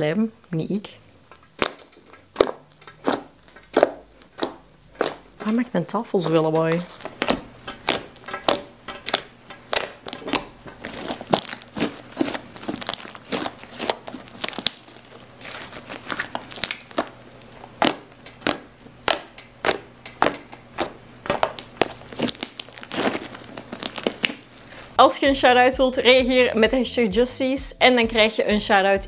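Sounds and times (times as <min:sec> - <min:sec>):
slime crackling and popping: 0:01.3 - 0:25.0.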